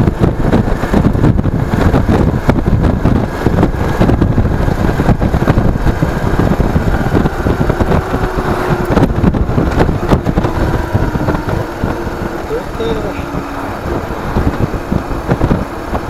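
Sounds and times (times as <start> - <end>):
faint engine drone: 0.0 - 16.0
wind buffeting microphone: 0.0 - 16.0.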